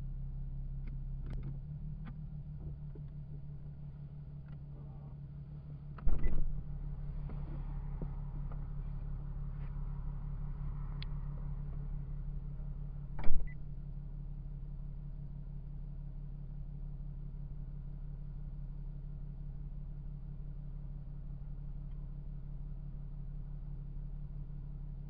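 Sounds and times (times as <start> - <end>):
low hum inside car: 0.0 - 25.0.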